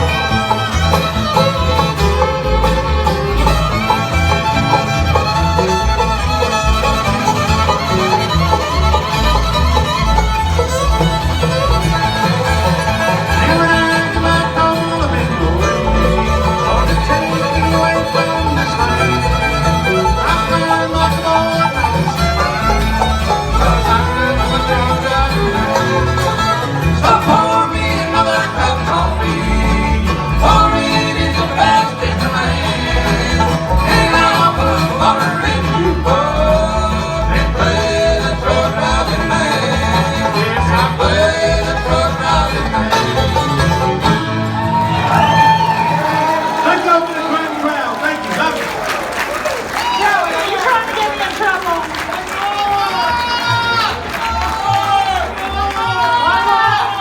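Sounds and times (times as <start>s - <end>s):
banjo: 0.0s - 46.4s
fiddle: 0.0s - 47.4s
bluegrass band playing: 0.0s - 50.8s.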